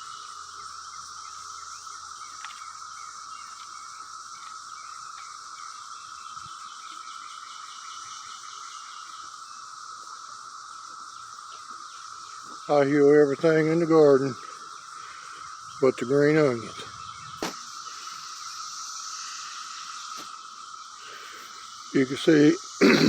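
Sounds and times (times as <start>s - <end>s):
cicada chorus drone: 0.0s - 23.0s.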